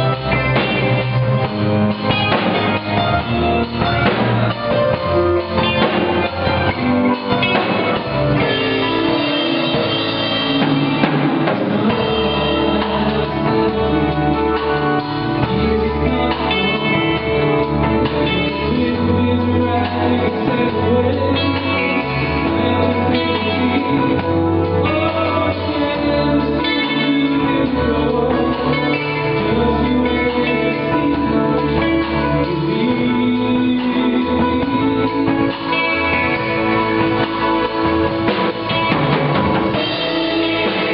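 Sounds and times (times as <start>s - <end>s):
bass guitar: 0.0s - 40.9s
drum kit: 0.0s - 40.9s
electric guitar: 0.0s - 40.9s
person singing: 0.0s - 40.9s.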